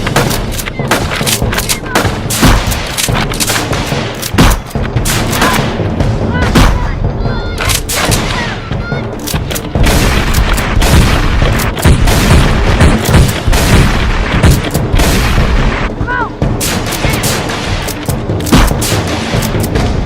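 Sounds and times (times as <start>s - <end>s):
rapid gunfire: 0.0s - 7.0s, 7.6s - 20.0s.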